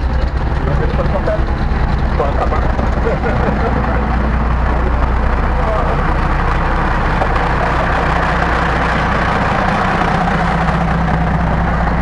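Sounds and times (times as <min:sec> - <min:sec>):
diesel railcar passing: 0:00.0 - 0:12.0.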